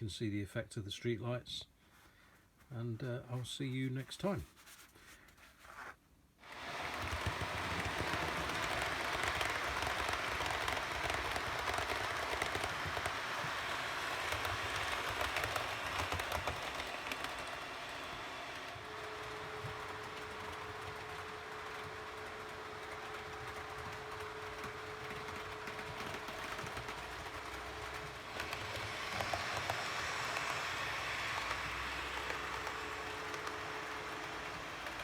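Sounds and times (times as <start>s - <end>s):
model train wheels on rail: 6.4s - 35.0s.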